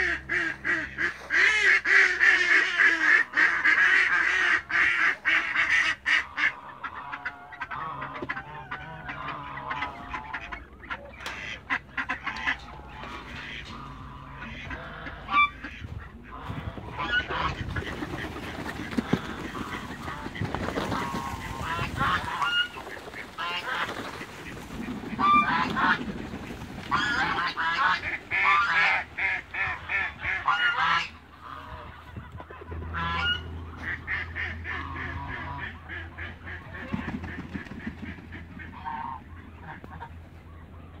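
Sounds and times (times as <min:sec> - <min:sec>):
geese honking: 0:00.0 - 0:41.0.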